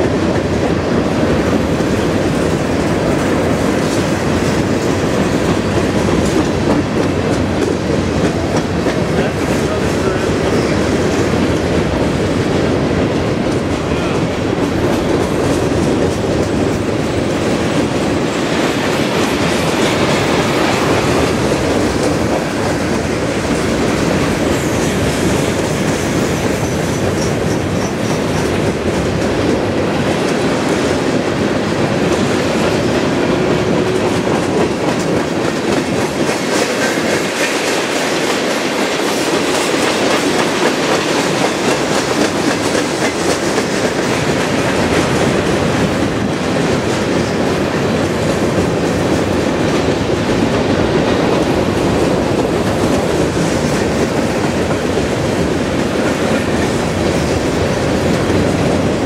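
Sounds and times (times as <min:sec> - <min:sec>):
freight train rumbling on trestle: 0:00.0 - 0:59.0.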